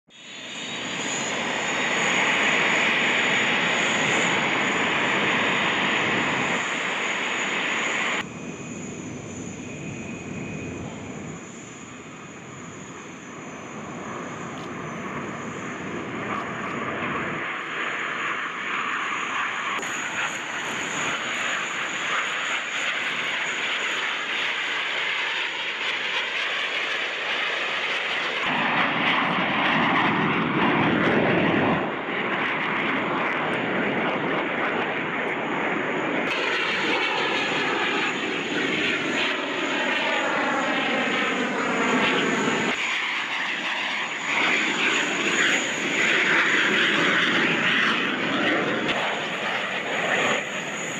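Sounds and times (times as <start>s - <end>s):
jet engines whining: 0.1s - 50.9s.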